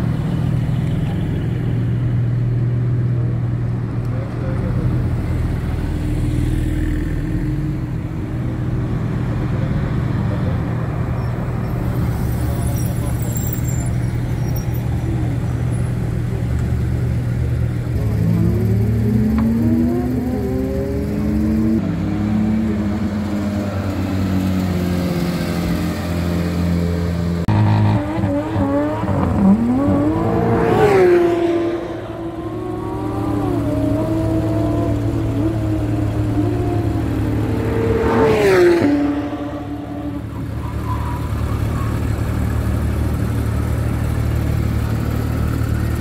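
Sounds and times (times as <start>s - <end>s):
car engines revving as cars drive off: 0.0s - 46.0s.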